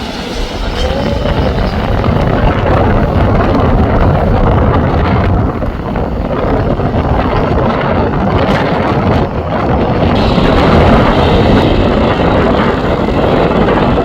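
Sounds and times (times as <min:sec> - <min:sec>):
jet engines: 0:00.0 - 0:14.0
wind rumbling on microphone: 0:00.0 - 0:14.0.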